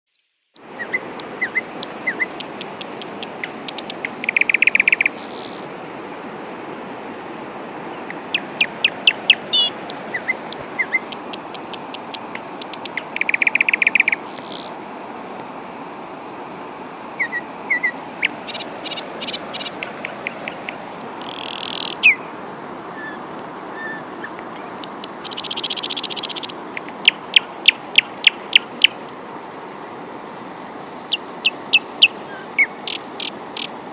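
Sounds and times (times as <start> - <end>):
buzzy bird trill: 0.1 - 5.7, 6.4 - 14.7, 15.8 - 29.2
birds chirping: 0.1 - 33.9
rain hissing: 0.6 - 33.9.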